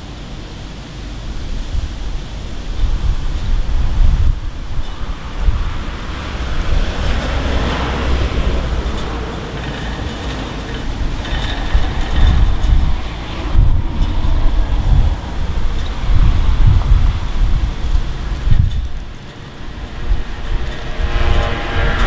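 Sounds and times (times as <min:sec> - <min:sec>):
continuous low rumble: 0:00.0 - 0:22.0
wind buffeting microphone: 0:00.0 - 0:22.0.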